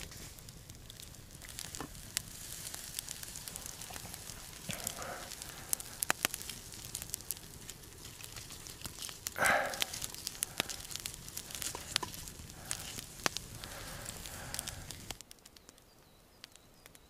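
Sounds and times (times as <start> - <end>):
logs shuffled into fire: 0.0 - 15.5
campfire crackling and popping: 0.0 - 17.0.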